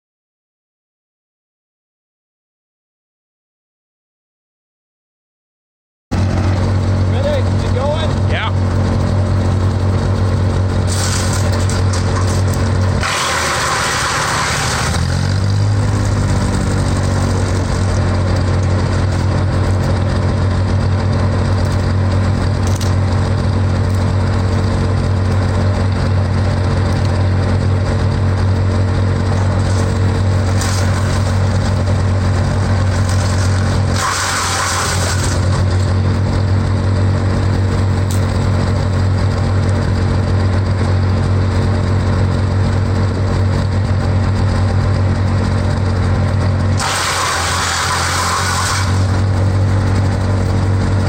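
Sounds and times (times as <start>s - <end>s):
wood chipper engine running: 6.1s - 51.0s
wood shredding in chipper: 6.1s - 51.0s.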